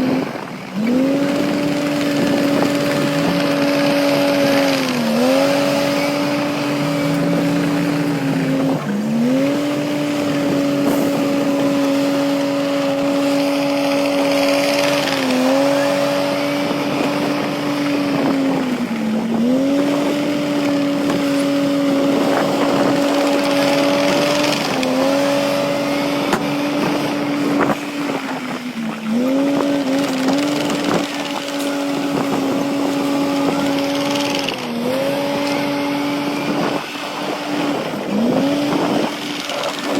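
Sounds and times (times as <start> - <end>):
earth and rock crunching and scraping: 0.0 - 36.9
bulldozer diesel engine under load: 0.0 - 39.9.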